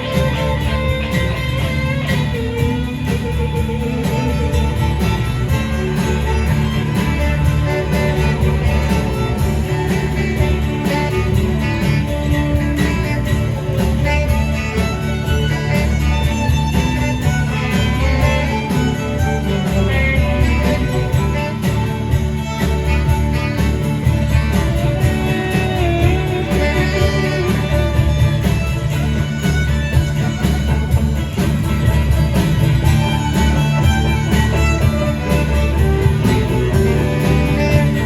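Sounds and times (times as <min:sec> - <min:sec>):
live band instrumental music: 0:00.0 - 0:38.0.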